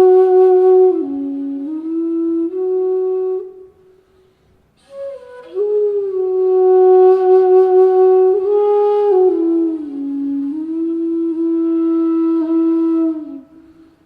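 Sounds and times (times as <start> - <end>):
bamboo flute melody: 0.0 - 3.8, 4.8 - 13.9.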